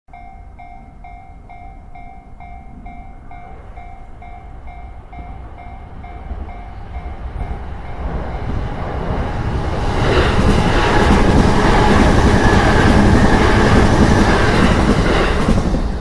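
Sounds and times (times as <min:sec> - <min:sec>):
train rumble: 0:00.1 - 0:16.0.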